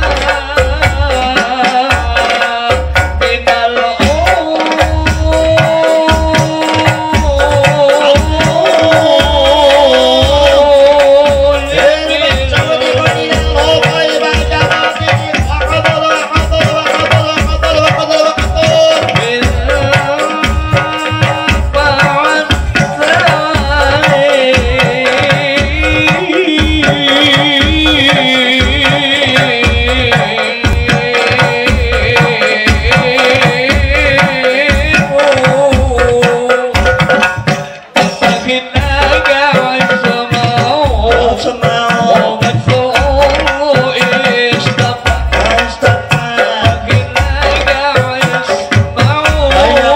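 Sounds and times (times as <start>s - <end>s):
frame drums beating: 0.0s - 49.9s
men singing into microphones: 0.0s - 49.9s.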